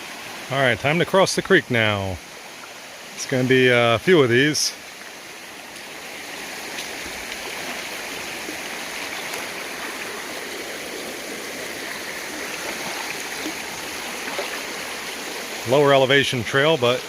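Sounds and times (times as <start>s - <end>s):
creek rushing over stones: 0.0s - 17.0s.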